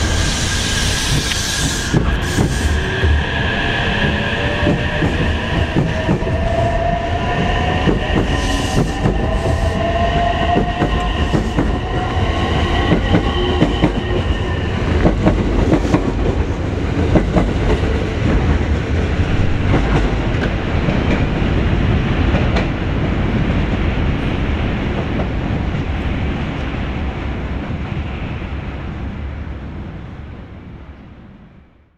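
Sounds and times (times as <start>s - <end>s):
wheels rumbling on rail: 0.0s - 31.9s.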